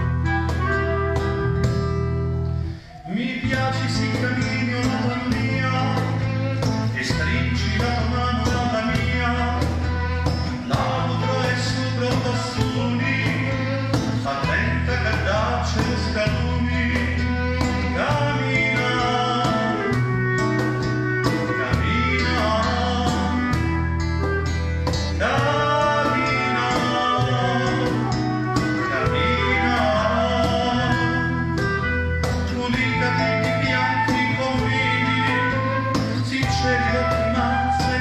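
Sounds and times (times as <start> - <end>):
bowed violin: 0.0 - 38.0
cajon beat: 0.0 - 38.0
held bass notes: 0.0 - 38.0
man singing: 2.9 - 38.0.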